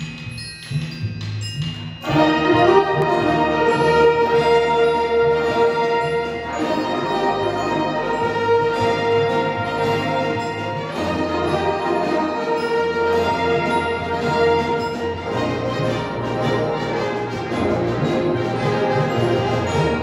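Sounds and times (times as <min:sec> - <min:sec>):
concert band playing: 0:02.0 - 0:20.0.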